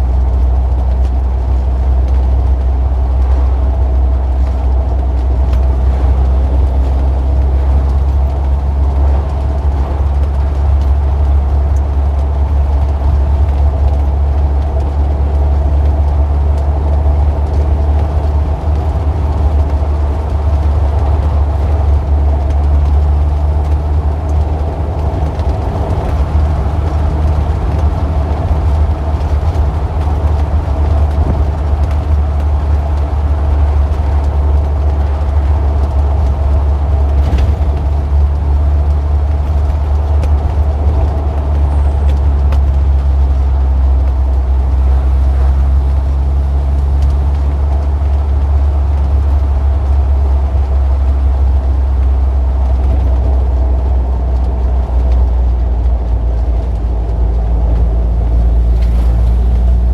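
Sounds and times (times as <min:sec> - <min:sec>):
traffic engine rumble: 0:00.0 - 0:59.9.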